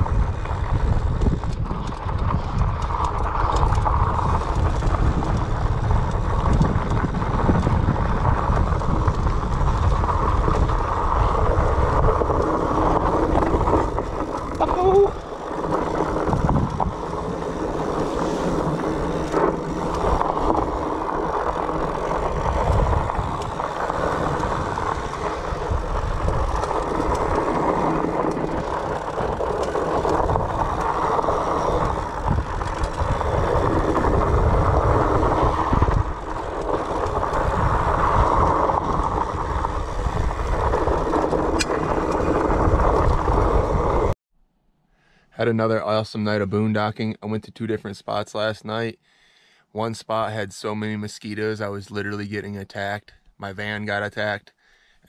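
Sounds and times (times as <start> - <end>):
bike tyres rolling over rocks: 0.0 - 44.2.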